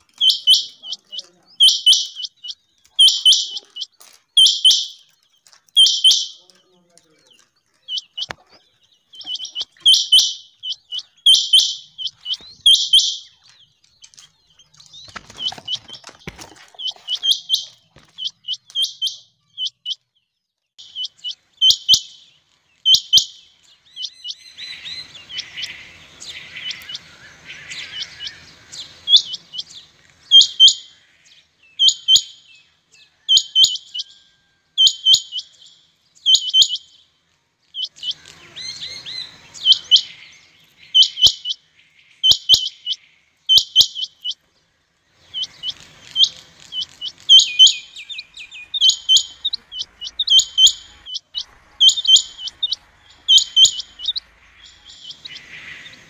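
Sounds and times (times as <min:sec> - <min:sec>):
quail calling: 0:00.0 - 0:06.6, 0:07.4 - 0:13.5, 0:14.8 - 0:20.0, 0:20.8 - 0:35.6, 0:36.2 - 0:37.0, 0:37.8 - 0:44.4, 0:45.2 - 0:56.0
soft bird chattering: 0:00.0 - 0:20.0, 0:20.8 - 0:34.2, 0:37.7 - 0:44.4, 0:45.2 - 0:56.0.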